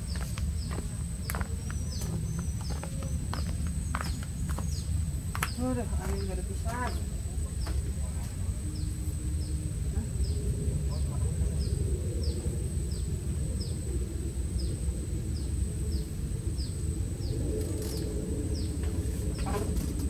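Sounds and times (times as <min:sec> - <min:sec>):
steady low rumble: 0:00.0 - 0:20.0
thin high whine: 0:00.0 - 0:20.0.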